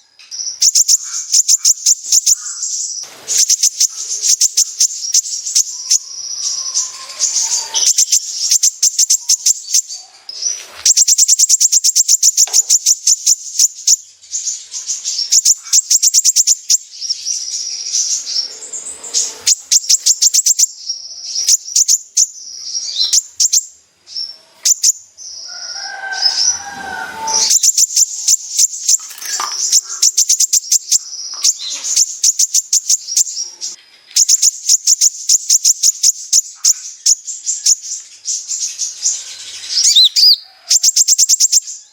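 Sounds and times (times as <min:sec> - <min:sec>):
sunbird chattering trills: 0:00.5 - 0:41.8.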